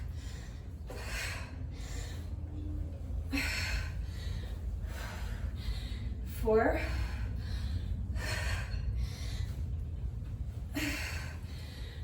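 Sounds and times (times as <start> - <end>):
steady low rumble: 0.0 - 12.0
woman breathing hard: 0.0 - 12.0.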